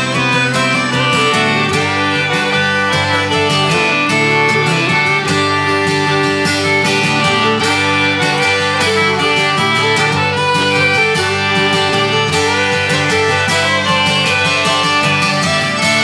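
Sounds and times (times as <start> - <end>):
concertina: 0.0 - 16.0
fiddle: 0.0 - 16.0
strummed acoustic guitar: 0.0 - 16.0.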